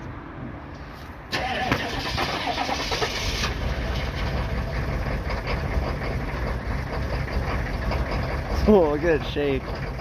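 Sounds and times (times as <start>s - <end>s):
diesel engine idling: 0.7s - 10.0s.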